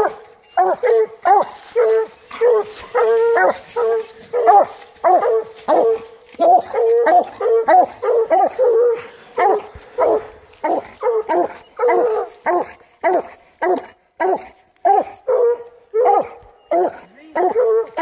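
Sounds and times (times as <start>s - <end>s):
dog barking: 0.0s - 18.0s.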